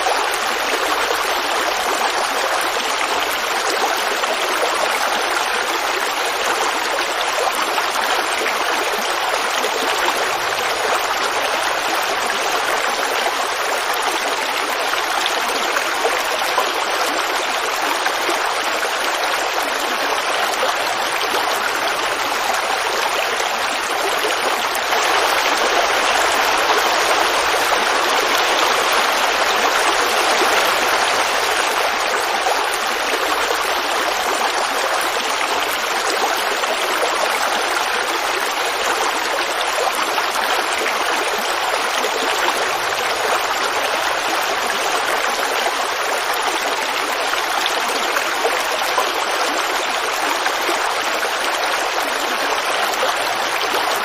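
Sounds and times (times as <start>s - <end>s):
creek water babbling over stones: 0.0s - 54.0s.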